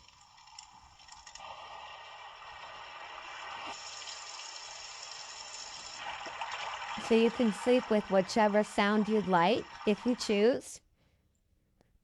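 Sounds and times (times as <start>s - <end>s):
rushing water-like sleep sound: 0.0s - 10.7s.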